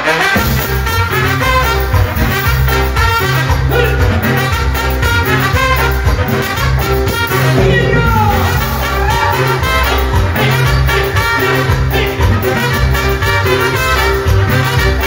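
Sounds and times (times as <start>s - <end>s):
drums: 0.0s - 15.0s
trumpet section melody: 0.0s - 15.0s
bass line: 0.3s - 15.0s.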